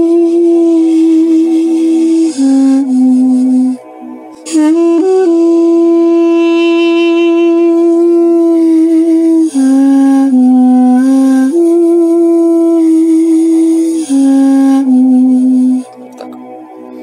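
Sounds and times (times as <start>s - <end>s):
duduk playing: 0.0s - 16.5s.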